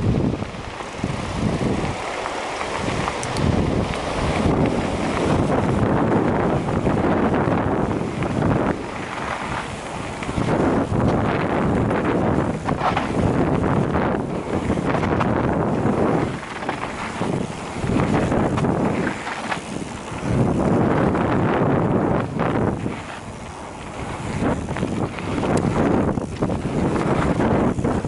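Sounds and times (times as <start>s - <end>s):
bike clicks and rattles: 0.0s - 28.0s
tyres rolling on gravel: 0.0s - 28.0s
wind rushing over microphone: 0.0s - 28.0s.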